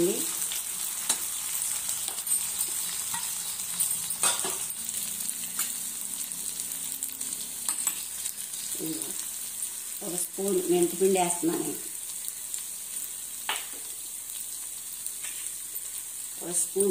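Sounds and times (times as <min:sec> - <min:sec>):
greens sizzling in a pan: 0:00.0 - 0:16.9.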